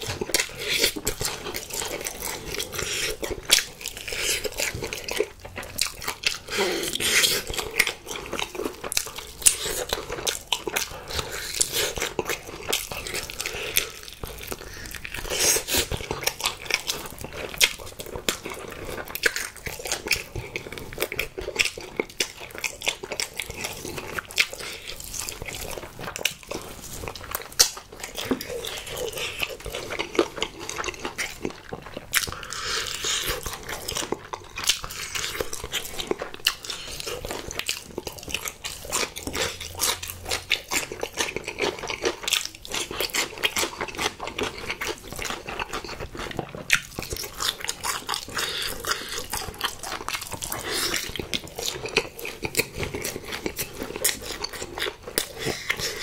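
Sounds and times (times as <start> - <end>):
crunchy biting and chewing: 0.0 - 56.0.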